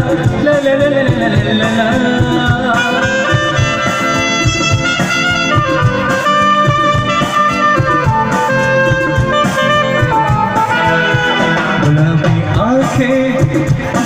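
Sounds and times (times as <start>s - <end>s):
dance remix instrumental: 0.0s - 14.0s.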